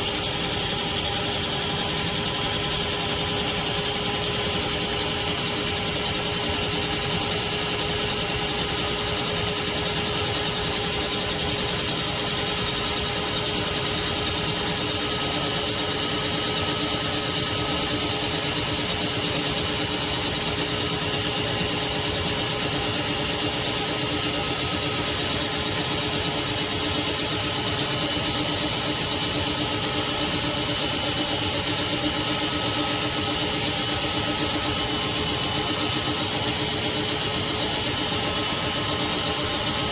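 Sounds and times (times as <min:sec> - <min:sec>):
shop vacuum motor whine: 0:00.0 - 0:39.9.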